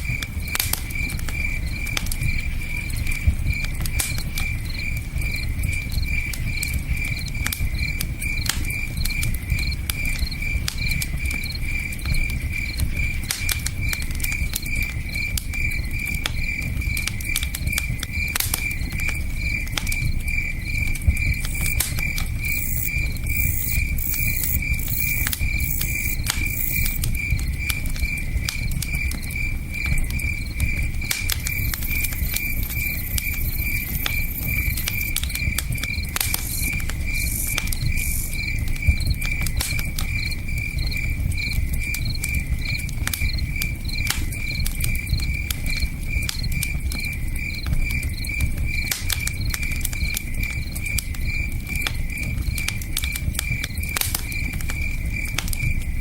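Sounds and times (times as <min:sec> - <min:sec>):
campfire crackling: 0:00.0 - 0:56.0
cricket chirping: 0:00.0 - 0:56.0.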